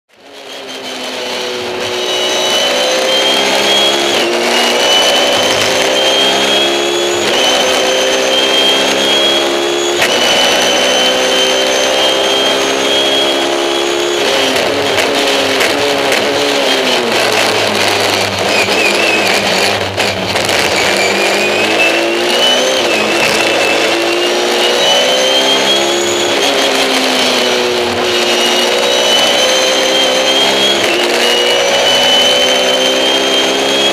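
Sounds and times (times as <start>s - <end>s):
racing car engine accelerating: 0.1s - 33.9s.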